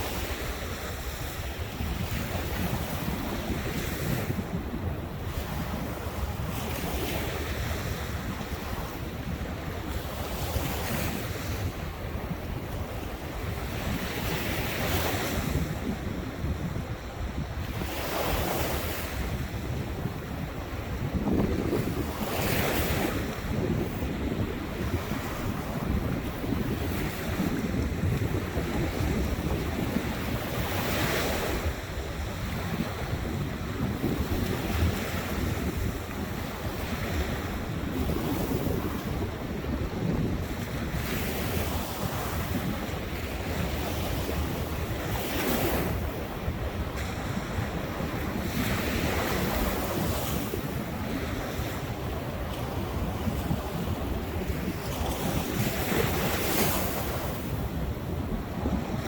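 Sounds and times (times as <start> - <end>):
waves breaking: 0.0 - 59.0
wind buffeting the microphone: 0.0 - 59.0.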